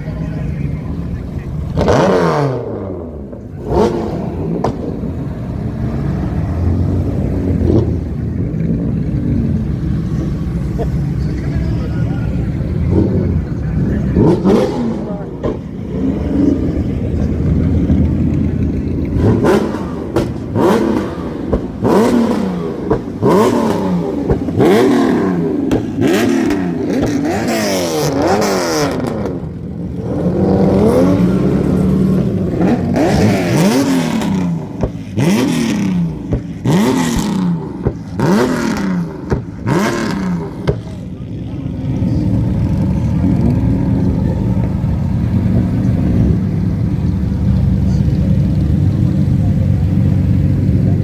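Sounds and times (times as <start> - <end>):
car exhaust revving: 0.0 - 51.0
exhaust cracks: 0.0 - 51.0.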